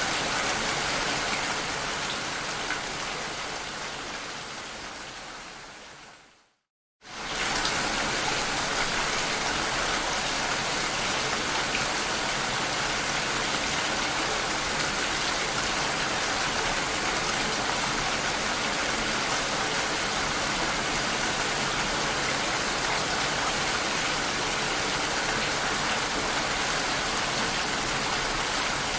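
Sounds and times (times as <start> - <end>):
rain heard through glass door: 0.0 - 28.9.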